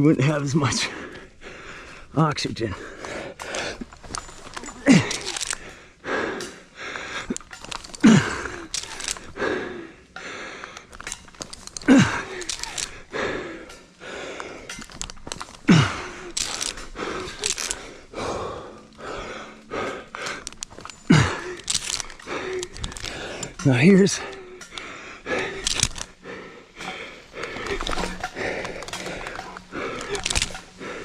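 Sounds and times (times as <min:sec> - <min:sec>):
person breathing hard: 0:00.8 - 0:31.0.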